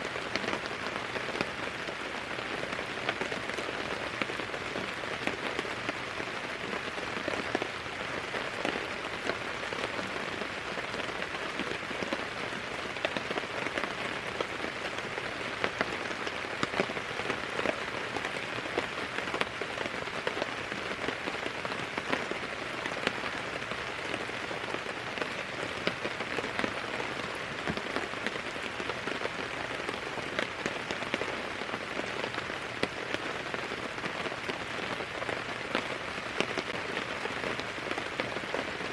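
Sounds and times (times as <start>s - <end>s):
raindrops ticking nearby: 0.0s - 38.9s
steady rain falling: 0.0s - 38.9s.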